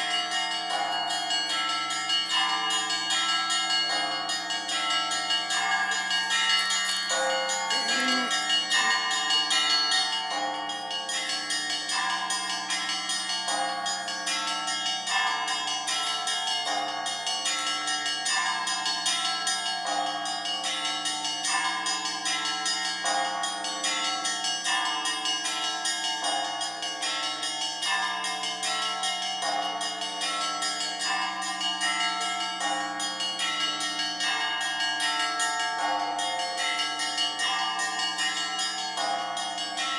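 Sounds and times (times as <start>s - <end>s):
church bells ringing in a peal: 0.0s - 39.9s.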